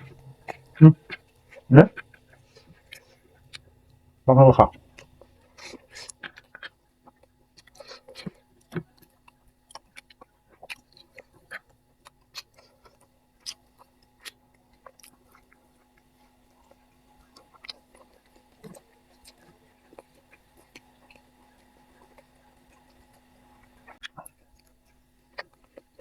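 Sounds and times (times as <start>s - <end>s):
faint steady hum: 0.0s - 26.0s
person chewing mouth sounds: 0.0s - 26.0s.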